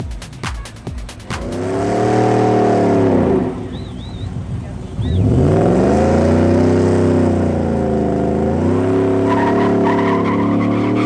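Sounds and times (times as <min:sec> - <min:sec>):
racing car engine revving: 0:01.2 - 0:11.0
tires squealing: 0:02.1 - 0:11.0.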